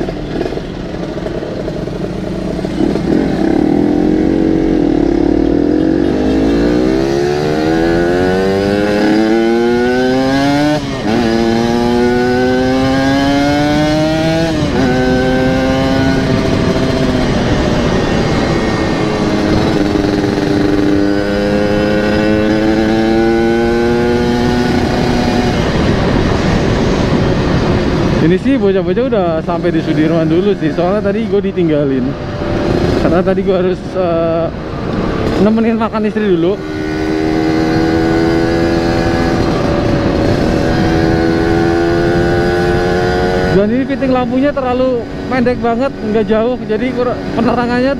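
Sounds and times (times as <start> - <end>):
two-stroke motorcycle accelerating: 0.0 - 47.9.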